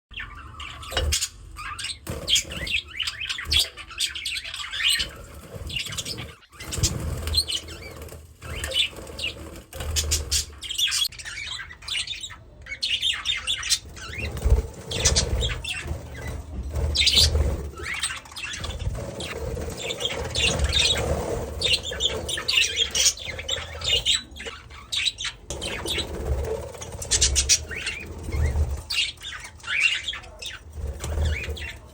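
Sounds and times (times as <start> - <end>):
wing flutters: 2.0 - 11.1, 13.7 - 24.6, 25.5 - 31.9.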